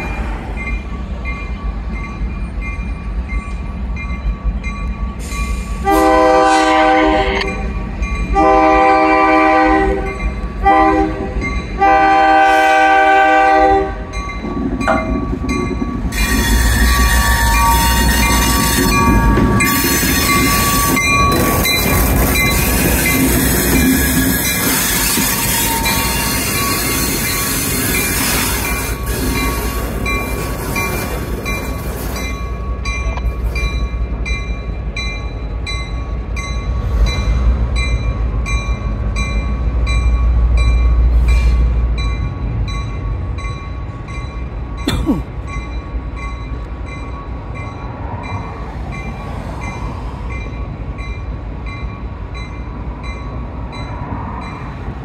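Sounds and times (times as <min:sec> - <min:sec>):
locomotive bell ringing: 0:00.0 - 0:06.1, 0:11.3 - 0:12.2, 0:13.4 - 0:54.8
diesel locomotive passing: 0:00.0 - 0:55.0
rail noise: 0:00.0 - 0:55.0.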